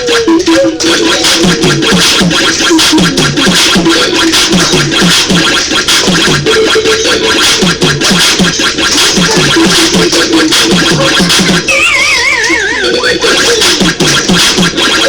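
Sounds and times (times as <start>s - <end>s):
loud music with fast beat: 0.0s - 15.0s
record scratch effects: 0.0s - 15.0s.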